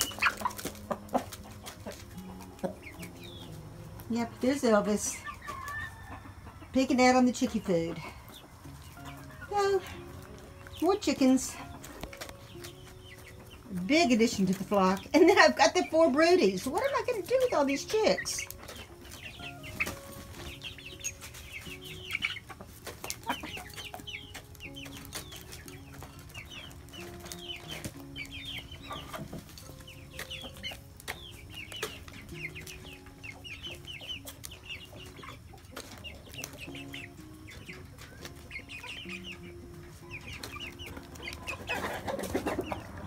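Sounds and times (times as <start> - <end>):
chicks peeping: 0.0 - 43.0
faint music: 0.0 - 43.0
pecking ticks: 8.4 - 43.0.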